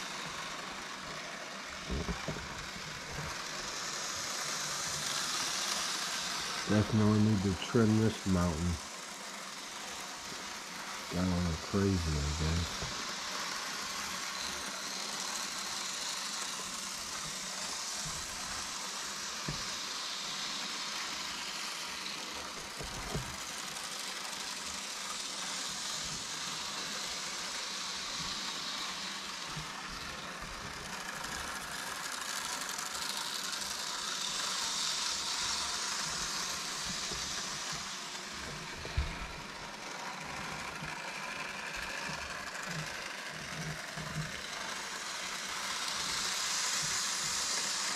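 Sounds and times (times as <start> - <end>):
model trains whirring: 0.0 - 47.9.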